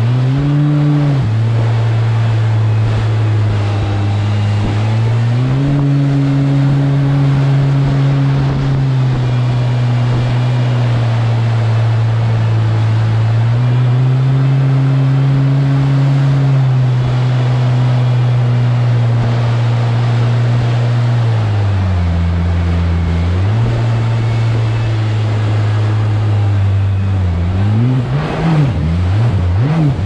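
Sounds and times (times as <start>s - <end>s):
boat engine running hard: 0.0s - 30.0s
rush of water and spray: 0.0s - 30.0s.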